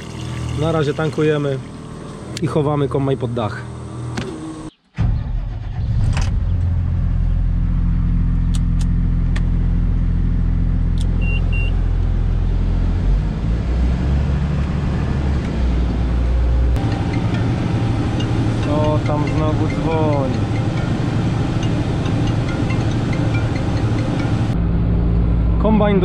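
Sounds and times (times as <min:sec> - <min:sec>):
diesel engine running: 0:01.7 - 0:26.0.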